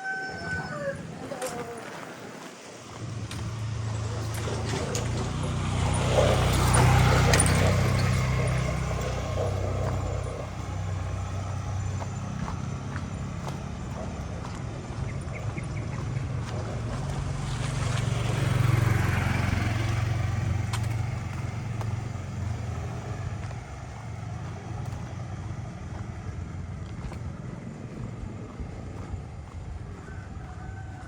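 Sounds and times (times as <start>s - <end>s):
motor scooter engine passing by: 0.0s - 31.0s.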